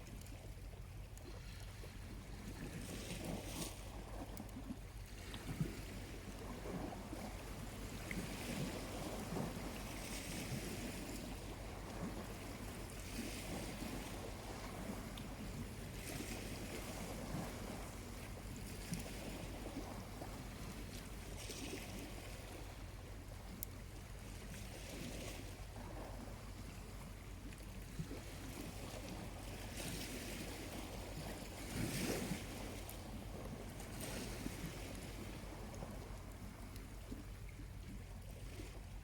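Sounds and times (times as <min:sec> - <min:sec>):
gentle waves washing onto beach: 0:00.0 - 0:39.0.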